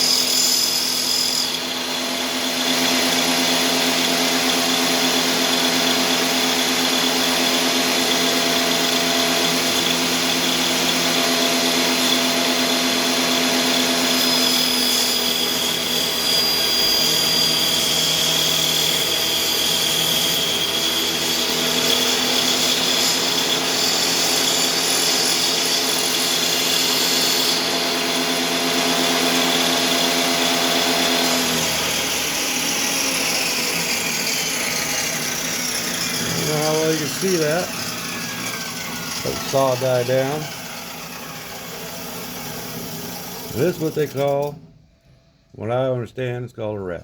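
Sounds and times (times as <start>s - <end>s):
saw motor winding down: 0.0s - 44.7s
table saw cutting wood: 0.0s - 44.8s.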